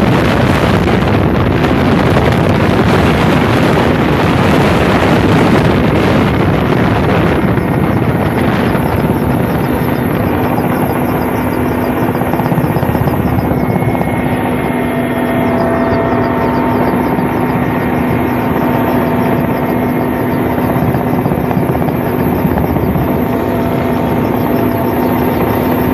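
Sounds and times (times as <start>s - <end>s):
helicopter droning overhead: 0.0s - 25.9s.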